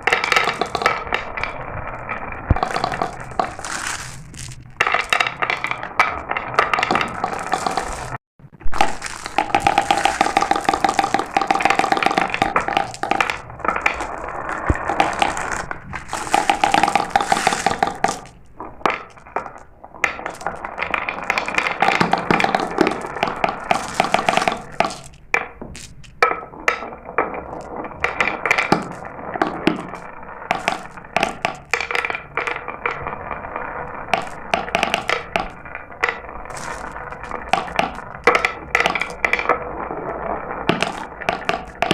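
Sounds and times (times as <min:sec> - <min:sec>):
marbles clattering down a run: 0:00.0 - 0:41.9.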